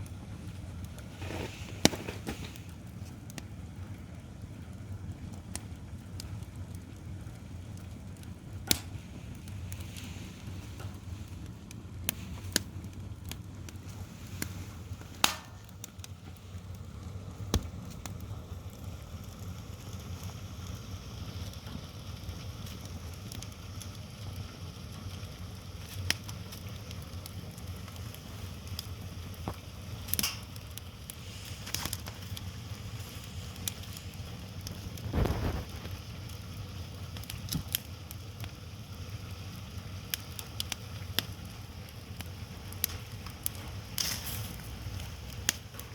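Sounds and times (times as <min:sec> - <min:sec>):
steady low rumble: 0:00.0 - 0:36.8
wood fire crackling: 0:00.0 - 0:45.9.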